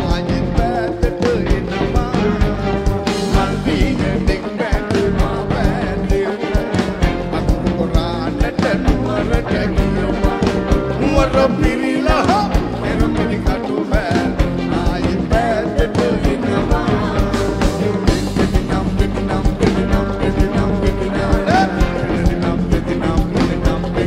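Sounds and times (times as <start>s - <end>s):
live band playing pop song: 0.0s - 24.0s
person singing: 0.0s - 24.0s.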